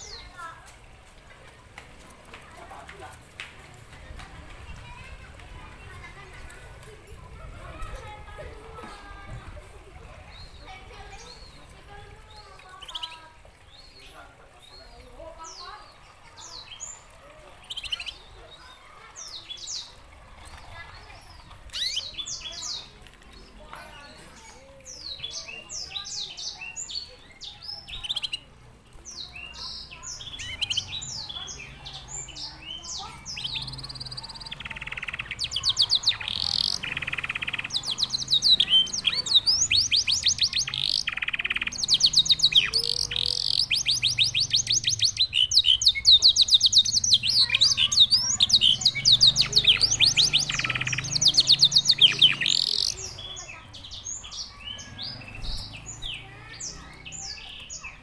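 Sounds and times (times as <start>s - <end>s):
canary singing: 10.2s - 18.6s, 19.3s - 58.0s.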